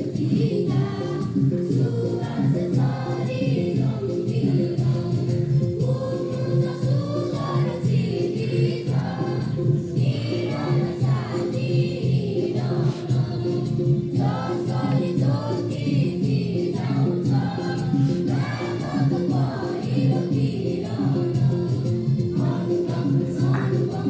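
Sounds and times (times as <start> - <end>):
group of voices singing: 0.0 - 24.0.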